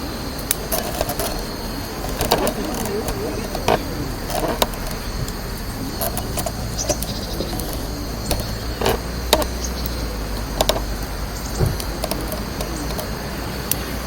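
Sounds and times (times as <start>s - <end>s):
wood fire crackling and popping: 0.4s - 13.9s.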